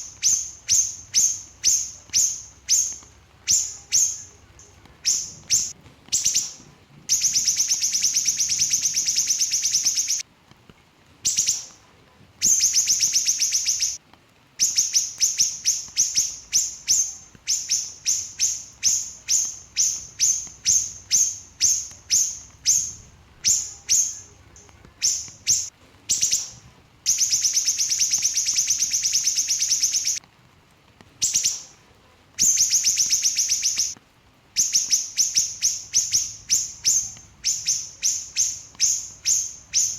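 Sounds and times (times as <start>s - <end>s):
small bird singing trills: 0.0s - 10.2s, 11.2s - 11.8s, 12.4s - 14.0s, 14.6s - 30.2s, 31.2s - 31.8s, 32.4s - 34.0s, 34.6s - 39.9s.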